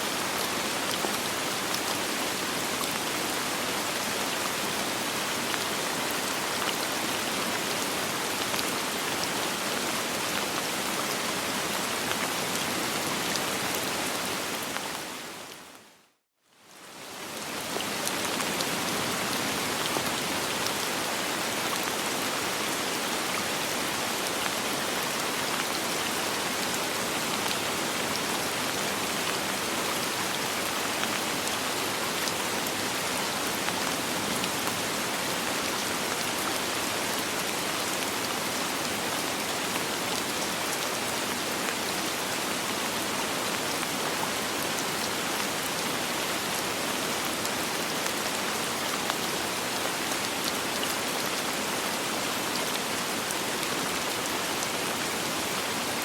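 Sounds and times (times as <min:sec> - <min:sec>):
rain falling on surfaces: 0:00.0 - 0:56.0.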